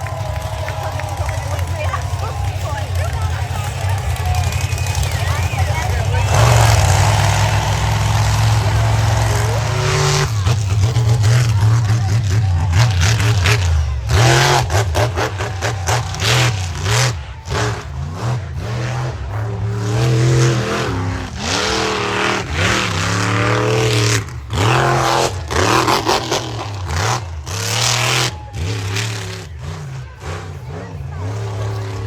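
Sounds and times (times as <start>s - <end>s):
truck engine revving hard: 0.0s - 32.0s.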